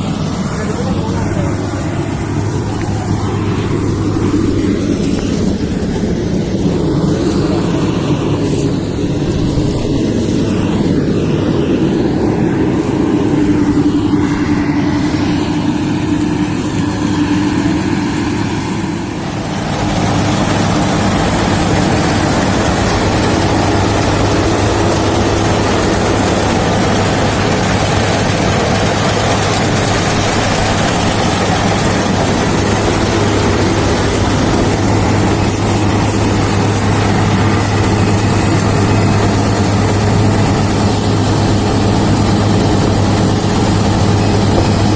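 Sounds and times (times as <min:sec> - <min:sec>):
harvester engine running: 0:00.0 - 0:44.9.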